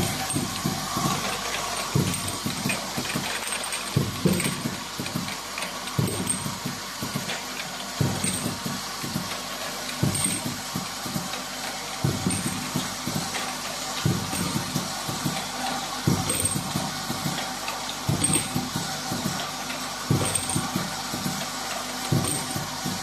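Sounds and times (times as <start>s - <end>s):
machine hum and hiss: 0.0s - 23.0s.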